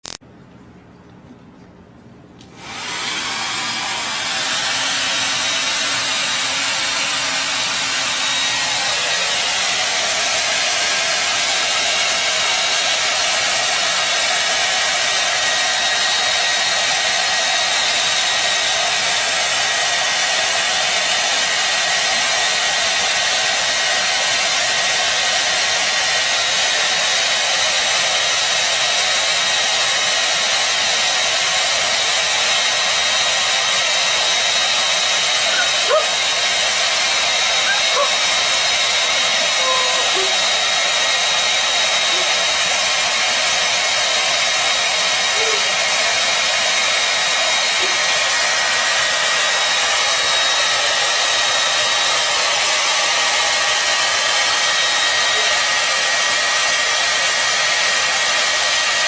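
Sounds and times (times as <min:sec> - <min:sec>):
hair dryer blowing: 0:02.4 - 0:59.0.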